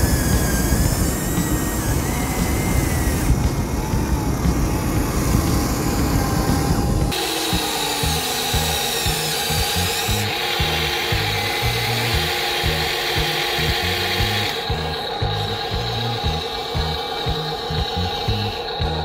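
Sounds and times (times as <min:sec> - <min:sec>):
rough dense noise: 0:00.0 - 0:19.0
toy excavator motor whine: 0:00.0 - 0:19.0.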